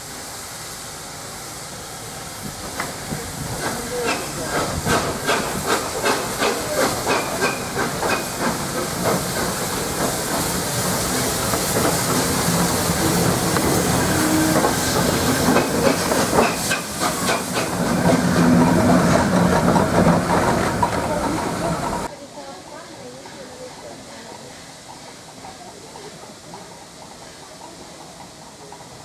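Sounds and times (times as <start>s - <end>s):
steam hissing: 0.0s - 29.0s
quick rhythmic locomotive beats: 2.4s - 29.0s.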